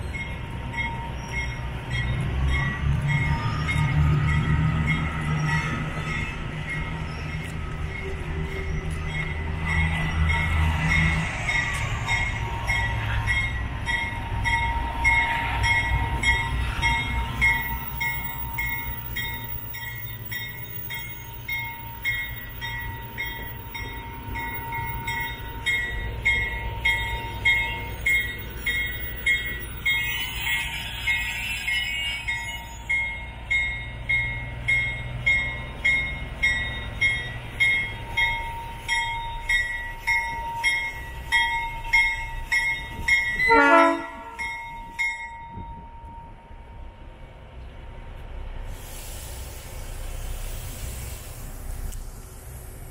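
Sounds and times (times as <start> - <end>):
diesel locomotive engine rumbling: 0.0 - 52.9.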